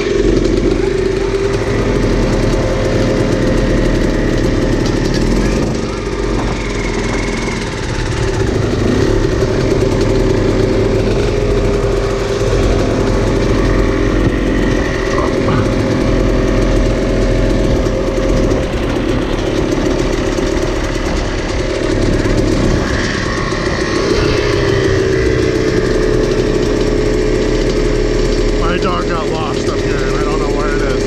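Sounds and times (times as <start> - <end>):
dirt bike engines idling: 0.0 - 31.0
dirt bike pulling away: 0.0 - 31.0.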